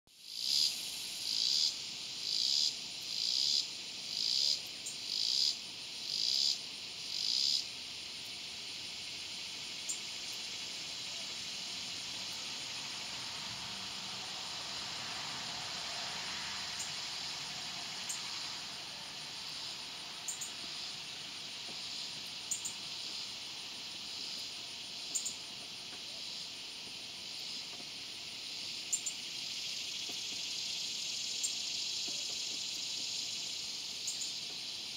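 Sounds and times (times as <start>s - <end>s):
cicada buzzing: 0.2s - 34.9s.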